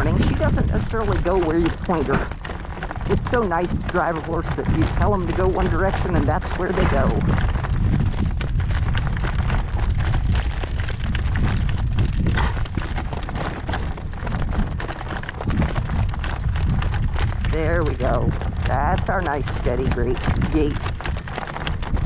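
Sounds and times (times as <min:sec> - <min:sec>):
horse hoofbeats clopping: 0:00.0 - 0:22.0
wind buffeting microphone: 0:00.0 - 0:22.0.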